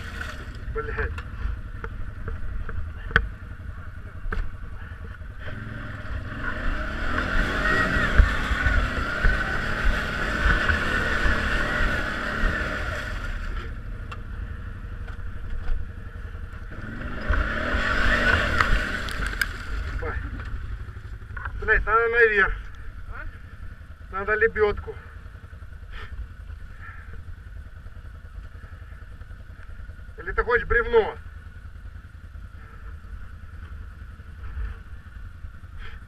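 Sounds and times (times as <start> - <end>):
off-road vehicle engine revving: 0.0 - 36.0.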